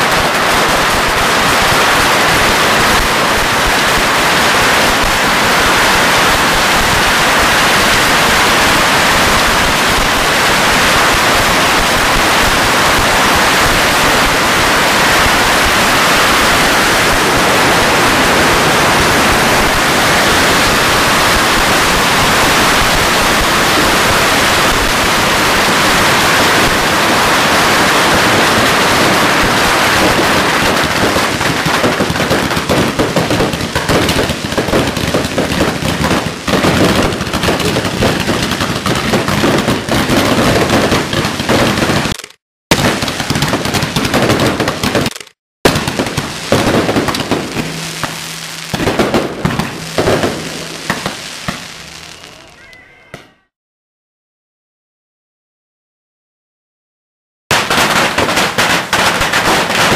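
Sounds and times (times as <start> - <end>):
firecrackers crackling bangs: 0.0 - 53.3, 57.5 - 59.9.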